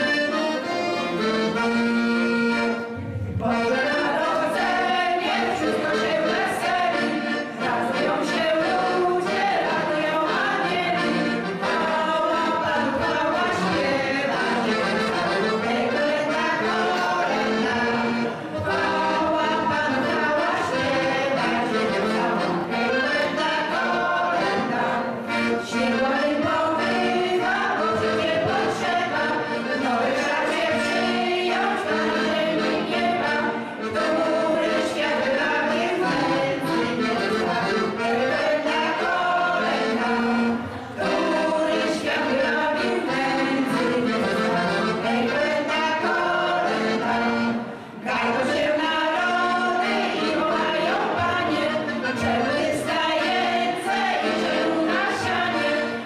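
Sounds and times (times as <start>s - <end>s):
accordion: 0.0s - 56.0s
women's group singing a carol: 0.0s - 56.0s.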